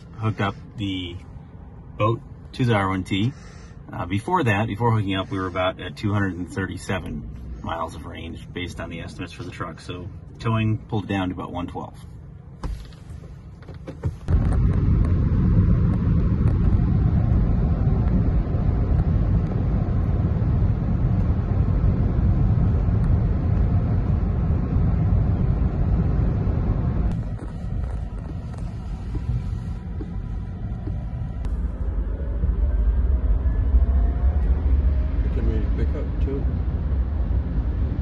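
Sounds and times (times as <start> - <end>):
road and wind noise rumble: 0.0 - 38.0.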